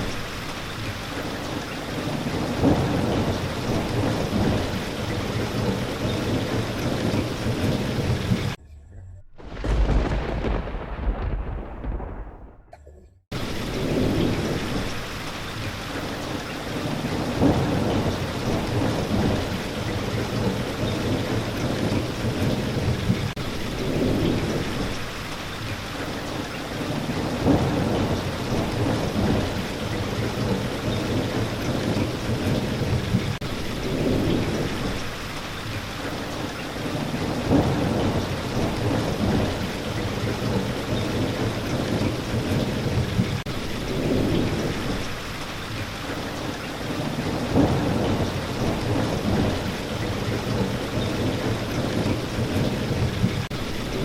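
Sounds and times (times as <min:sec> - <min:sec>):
low rolling thunder: 0:00.0 - 0:08.6, 0:09.4 - 0:54.0
steady rain: 0:00.0 - 0:08.6, 0:09.4 - 0:12.7, 0:13.3 - 0:54.0.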